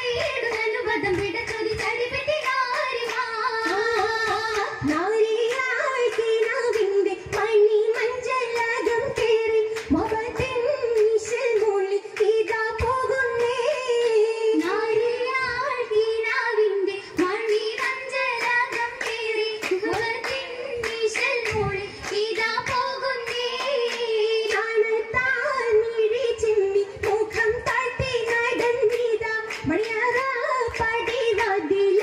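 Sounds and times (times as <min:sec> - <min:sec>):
girls singing in unison: 0:00.0 - 0:32.0
rhythmic handclaps: 0:00.0 - 0:32.0.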